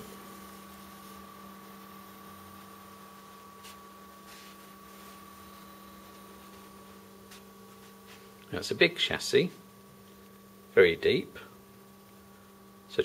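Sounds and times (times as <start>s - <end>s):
server cooling fans humming: 0.0s - 13.0s.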